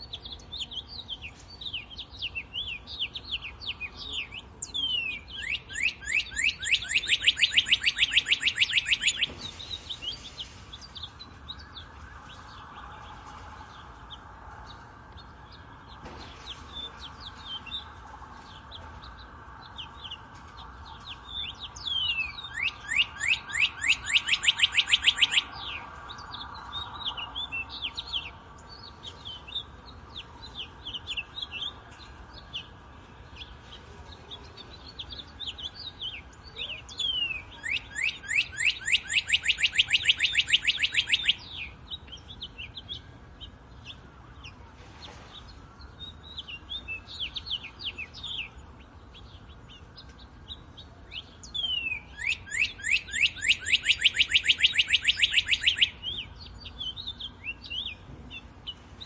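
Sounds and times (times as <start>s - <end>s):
loud bird trill: 0.0s - 33.7s, 34.5s - 59.0s
birds chirping: 0.0s - 59.0s.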